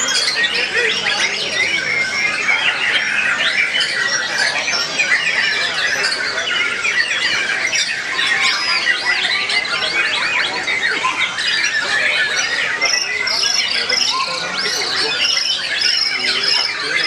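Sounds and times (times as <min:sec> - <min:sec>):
birds singing whistles and trills: 0:00.0 - 0:17.0.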